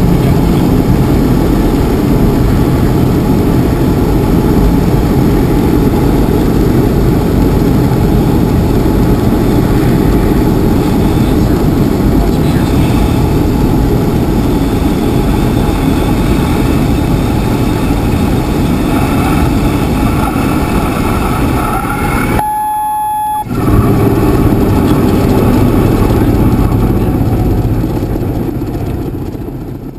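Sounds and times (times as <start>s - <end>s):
idling plane engine and propeller: 0.0s - 22.4s, 23.5s - 29.9s
steady warning tone: 0.0s - 28.6s.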